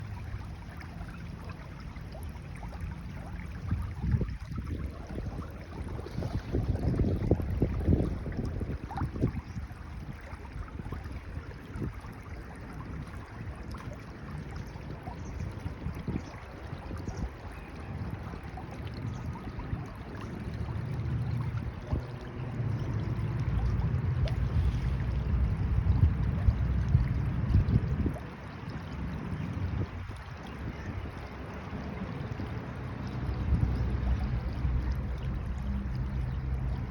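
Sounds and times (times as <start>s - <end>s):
stream water rushing: 0.0s - 36.9s
wind buffeting microphone: 0.0s - 36.9s.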